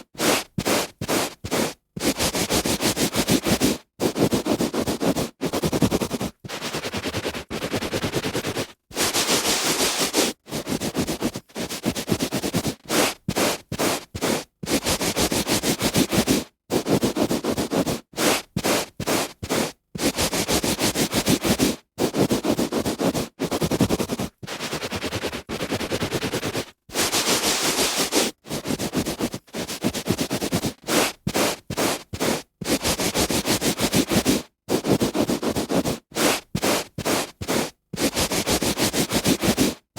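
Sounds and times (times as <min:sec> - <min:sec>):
hand rubbing on carpet: 0:00.0 - 0:39.8.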